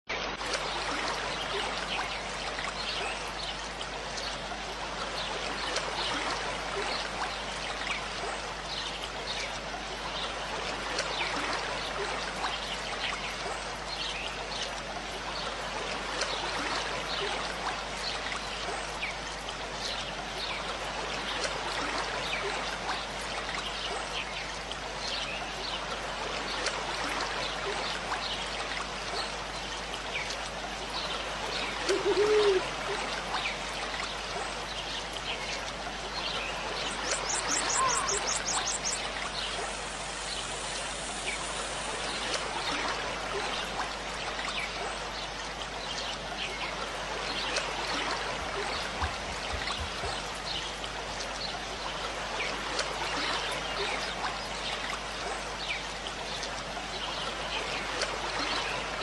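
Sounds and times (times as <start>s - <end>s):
water-like rushing noise: 0.1s - 59.0s.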